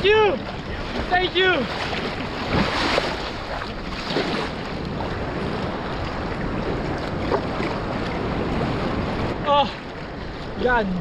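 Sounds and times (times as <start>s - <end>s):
paddle splashes: 0.0s - 11.0s
surf rushing around a kayak: 0.0s - 11.0s
wind on the microphone: 0.0s - 11.0s.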